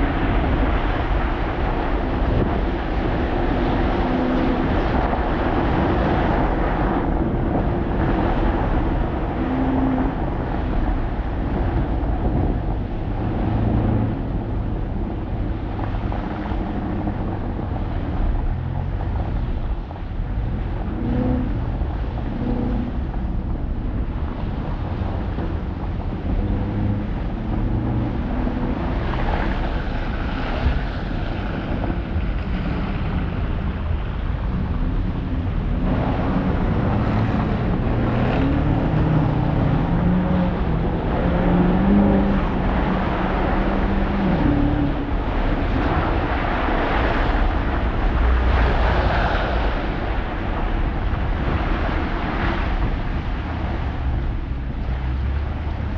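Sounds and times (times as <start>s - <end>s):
car engine accelerating: 0.0s - 55.9s
road and wind noise: 0.0s - 55.9s.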